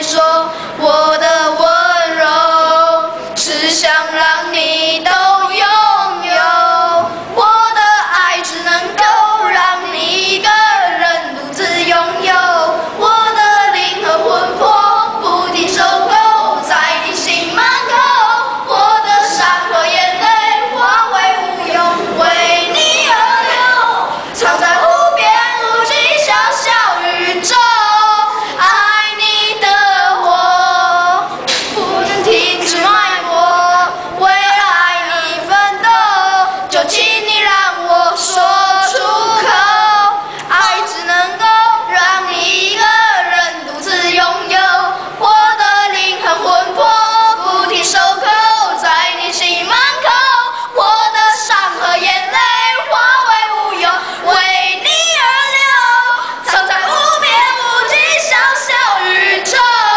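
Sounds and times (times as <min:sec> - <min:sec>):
boys singing: 0:00.0 - 0:59.9.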